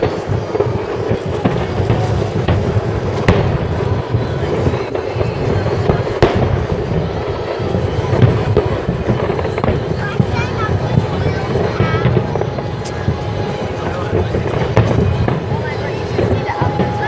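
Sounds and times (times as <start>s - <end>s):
firework bangs: 0.0s - 17.0s.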